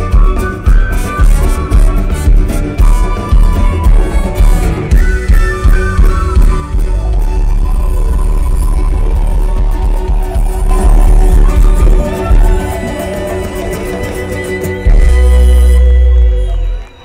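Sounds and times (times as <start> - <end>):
drum kit pounding: 0.0 - 14.0
live rock band: 0.0 - 17.0.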